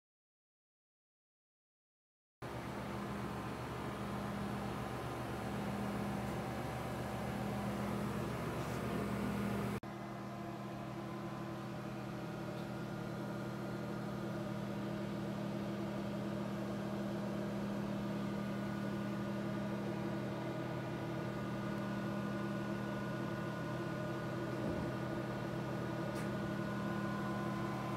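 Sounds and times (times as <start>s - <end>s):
lab equipment humming: 2.4s - 27.9s.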